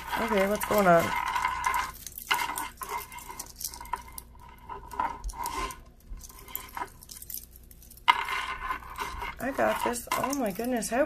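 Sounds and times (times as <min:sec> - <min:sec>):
beads clicking and rattling: 0:00.0 - 0:11.0.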